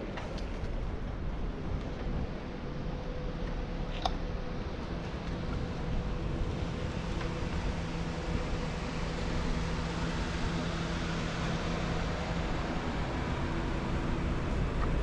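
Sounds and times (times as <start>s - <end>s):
low mechanical hum: 0.0s - 15.0s
outdoor street noise: 0.0s - 15.0s.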